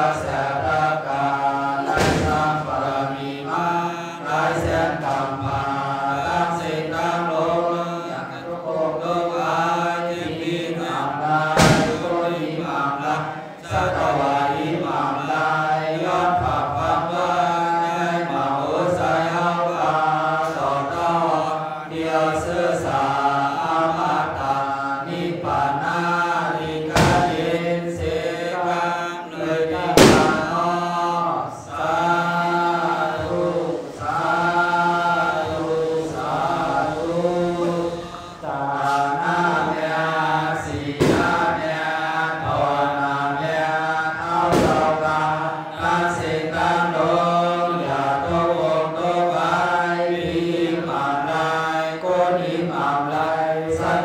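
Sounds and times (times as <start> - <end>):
person chanting into microphone: 0.0 - 54.0.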